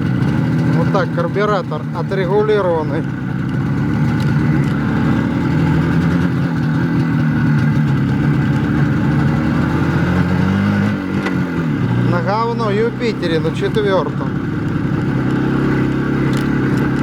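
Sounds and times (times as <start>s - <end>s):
two-stroke motorcycle engine running: 0.0s - 17.0s.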